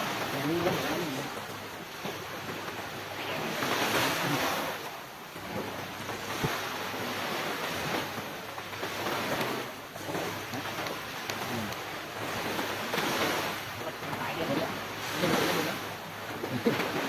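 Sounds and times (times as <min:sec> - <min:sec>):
sea waves washing on beach: 0:00.0 - 0:17.0.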